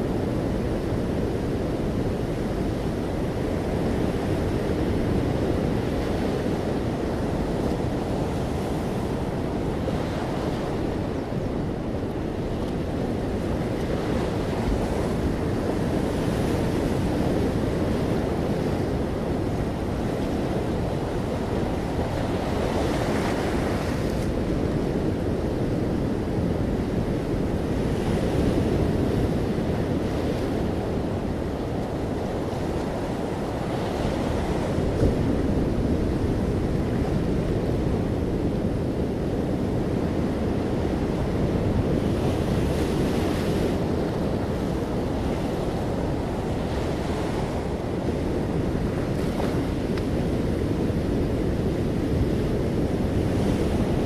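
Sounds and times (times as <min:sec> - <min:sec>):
low rumble of waves: 0:00.0 - 0:54.0
wind noise: 0:00.0 - 0:54.0.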